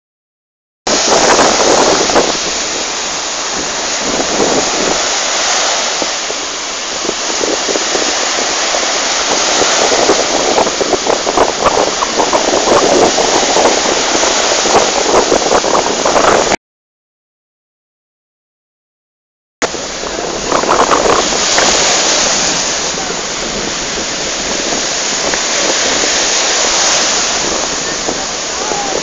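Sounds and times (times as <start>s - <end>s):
waves breaking on shore: 0.9s - 16.6s, 19.6s - 29.0s.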